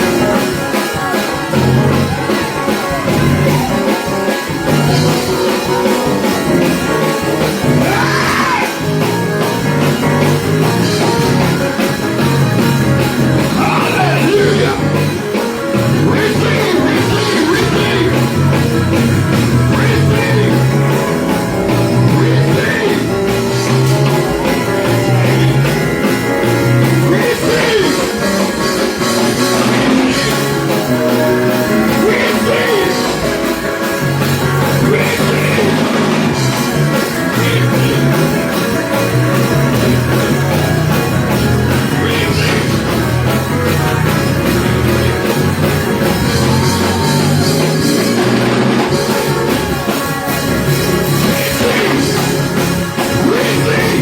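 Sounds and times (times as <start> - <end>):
rock music: 0.0 - 54.0.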